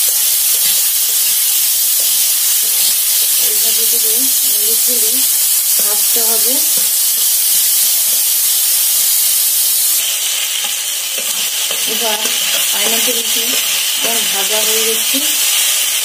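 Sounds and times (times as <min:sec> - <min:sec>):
pineapple sizzling in a wok: 0:00.0 - 0:16.0.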